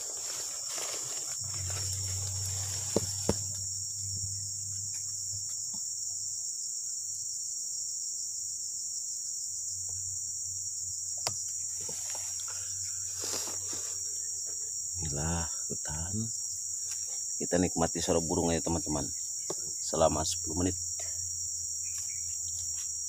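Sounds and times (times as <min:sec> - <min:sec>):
buzzing insect chorus: 0:00.0 - 0:23.0.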